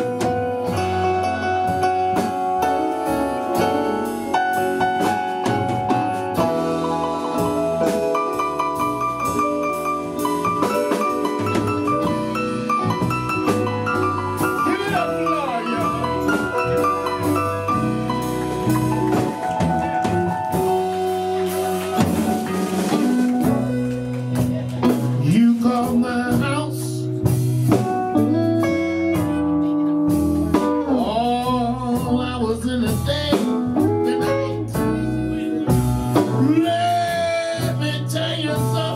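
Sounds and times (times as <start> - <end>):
live blues band playing: 0.0 - 38.9.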